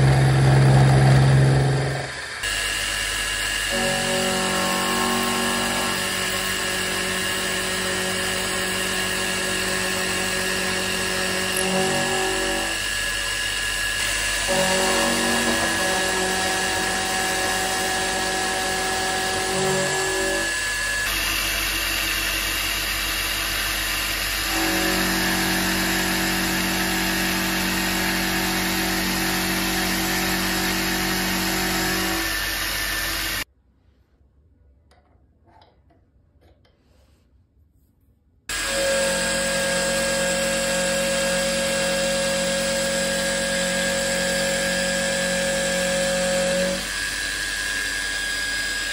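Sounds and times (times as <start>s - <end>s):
milling machine cutting metal: 0.0s - 33.4s, 38.5s - 48.9s.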